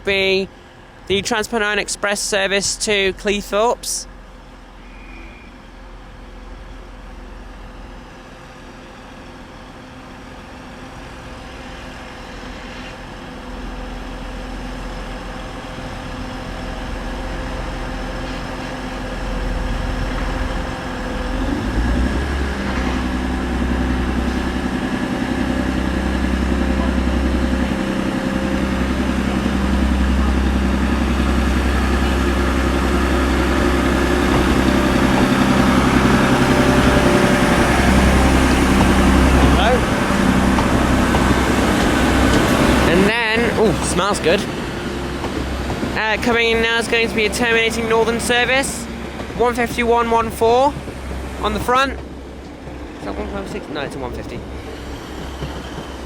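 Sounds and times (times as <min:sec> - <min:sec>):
diesel train engines running: 0:00.0 - 0:56.0.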